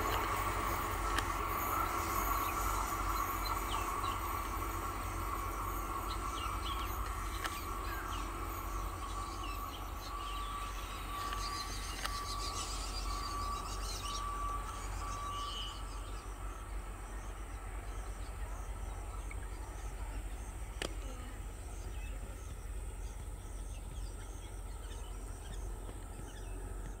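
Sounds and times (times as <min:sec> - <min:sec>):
birds chirping: 0:00.0 - 0:27.0
steady low rumble: 0:00.0 - 0:27.0.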